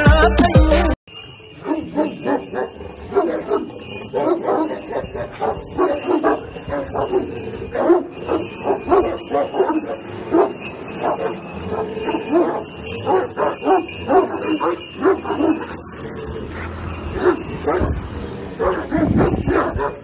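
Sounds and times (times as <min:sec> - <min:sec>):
large dogs barking: 0:01.4 - 0:20.0.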